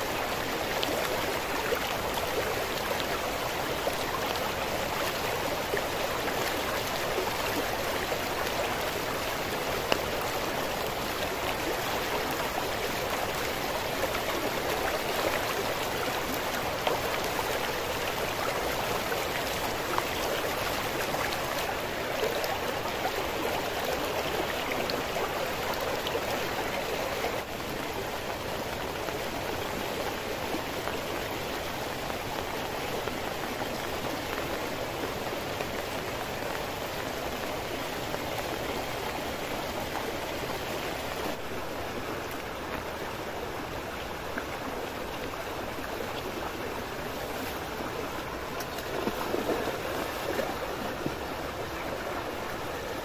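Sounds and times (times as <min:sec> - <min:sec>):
river rushing: 0:00.0 - 0:53.0.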